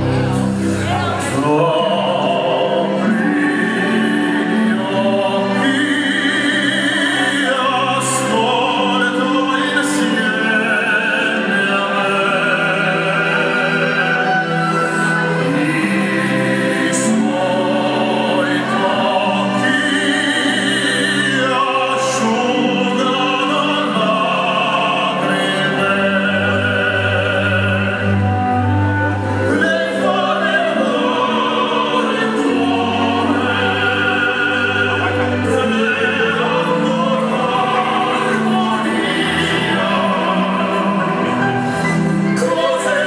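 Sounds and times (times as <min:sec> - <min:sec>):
operatic singing: 0:00.0 - 0:43.0
orchestral accompaniment: 0:00.0 - 0:43.0.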